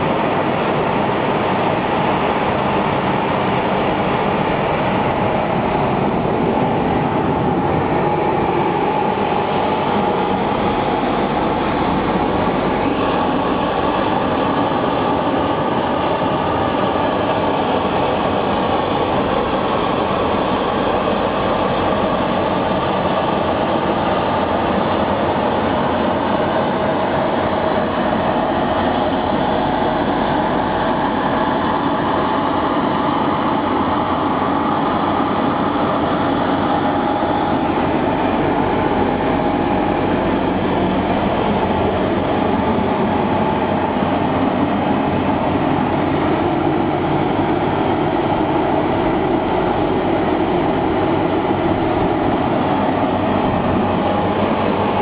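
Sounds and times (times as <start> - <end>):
car wash machine running: 0.0 - 55.0.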